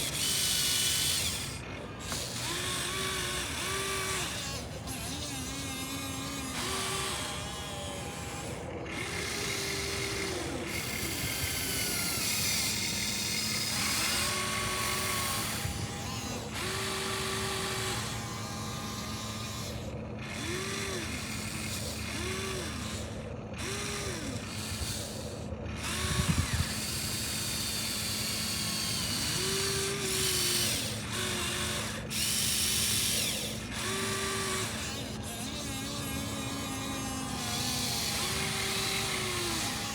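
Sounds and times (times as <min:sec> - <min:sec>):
small electric gear motors whirring: 0:00.0 - 0:39.9.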